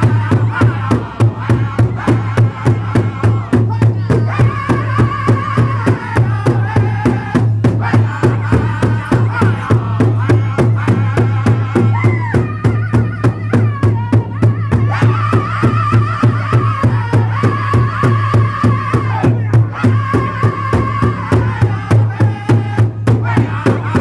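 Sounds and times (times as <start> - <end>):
group singing in high voices: 0.0 - 24.0
large drum steady beat: 0.0 - 24.0.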